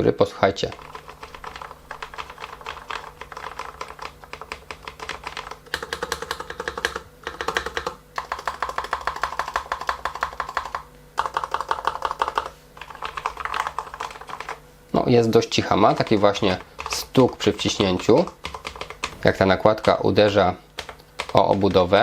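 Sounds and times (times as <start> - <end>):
light clatter of keyboard typing: 0.6 - 14.6, 15.6 - 20.0, 20.8 - 22.0.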